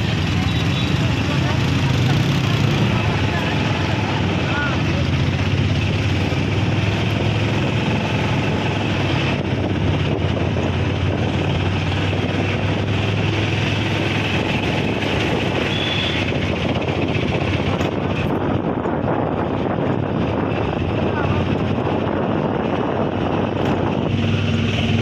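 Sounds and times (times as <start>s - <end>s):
vehicle engine running: 0.0s - 25.0s
wind rushing over microphone: 1.4s - 25.0s.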